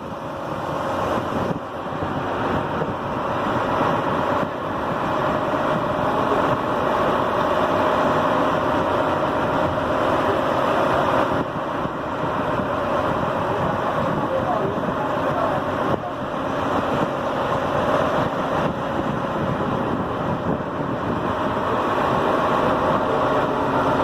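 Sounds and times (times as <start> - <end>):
wind noise: 0.0 - 6.8, 11.1 - 24.0
boat engine droning: 0.0 - 24.0
water wash: 0.0 - 24.0.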